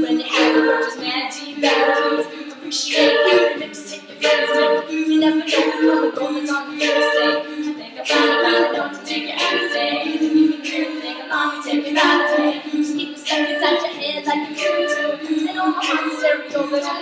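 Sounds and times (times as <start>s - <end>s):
mouth percussion beat: 0.0s - 17.0s
women singing in harmony: 0.0s - 17.0s.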